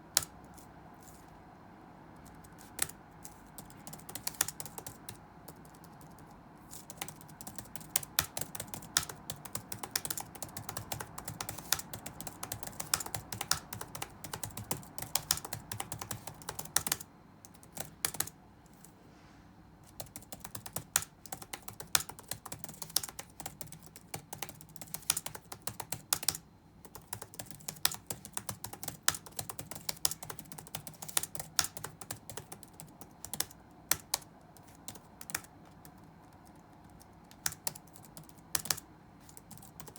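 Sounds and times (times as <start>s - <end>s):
faint steady hum: 0.0s - 39.9s
rapid typing on keyboard: 2.2s - 18.4s, 19.8s - 39.9s.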